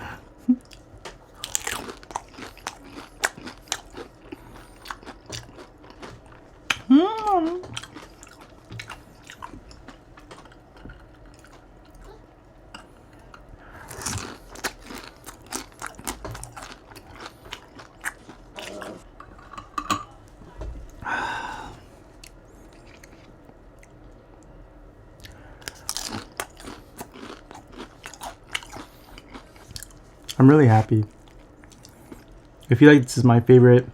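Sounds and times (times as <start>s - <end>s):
chewing and crunching food: 0.5s - 19.1s, 22.1s - 24.5s, 25.2s - 32.8s.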